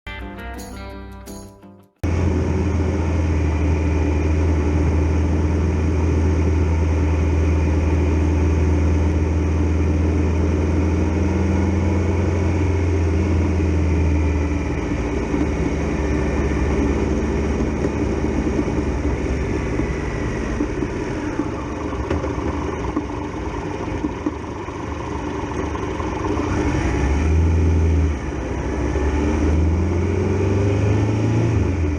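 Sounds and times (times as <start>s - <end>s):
motorcycle engine running: 2.0s - 29.1s.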